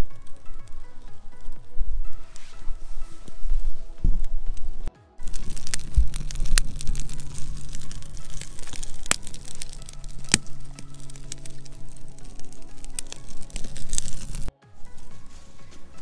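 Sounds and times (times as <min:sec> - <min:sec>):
background music with low notes: 0:00.0 - 0:16.0
fire crackling and popping: 0:00.0 - 0:16.0.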